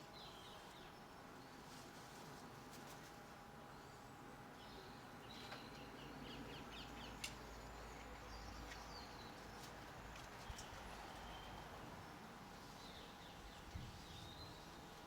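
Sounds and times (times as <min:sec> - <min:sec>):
garden birds calling: 0:00.0 - 0:01.6, 0:03.8 - 0:15.0
low steady background hum: 0:00.0 - 0:15.0.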